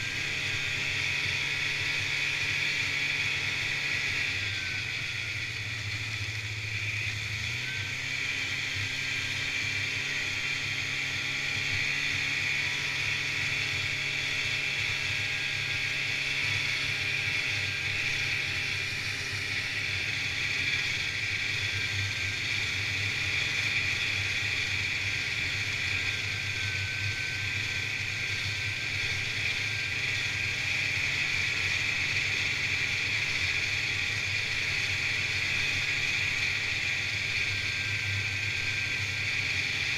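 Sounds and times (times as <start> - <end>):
snowmobile engine drone: 0.0 - 39.9.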